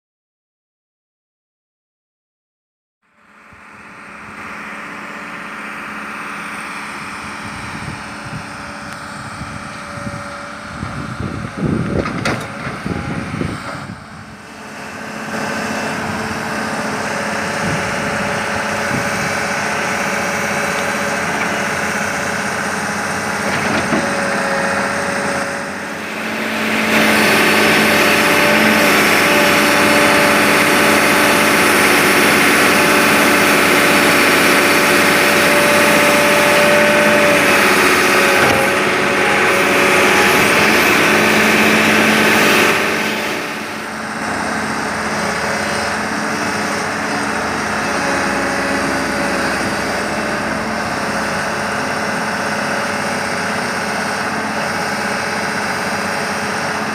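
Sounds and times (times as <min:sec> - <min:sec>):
excavator diesel engine running: 0:03.1 - 0:56.9.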